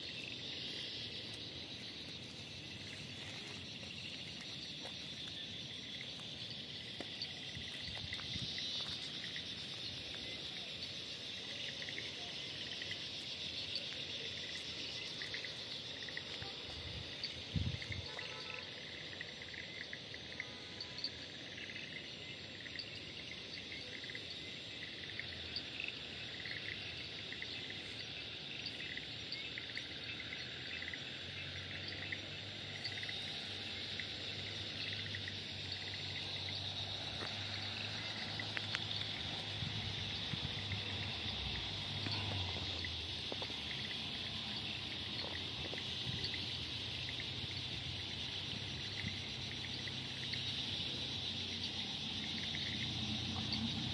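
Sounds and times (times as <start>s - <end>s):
cricket chirps: 0.0s - 53.9s
insects trilling: 0.0s - 53.9s.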